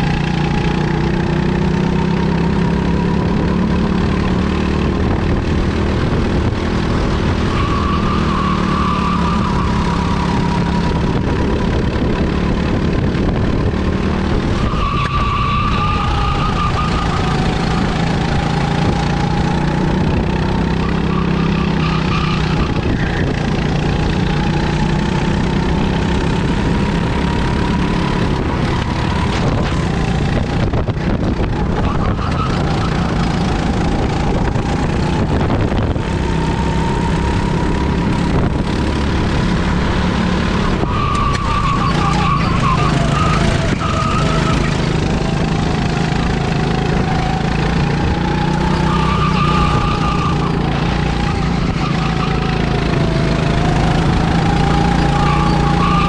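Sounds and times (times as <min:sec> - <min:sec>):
kart engine revving: 0:00.0 - 0:56.0
wind and road noise: 0:00.0 - 0:56.0.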